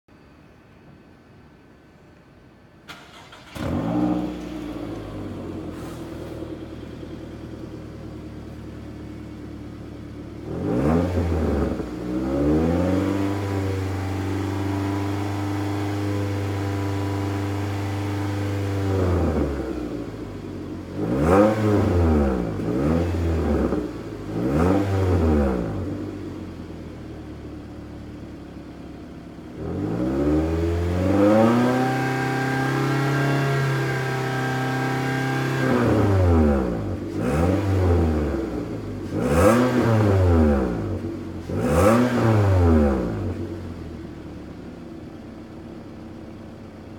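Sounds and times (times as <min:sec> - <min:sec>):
car engine idling and revving: 0:02.9 - 0:46.9.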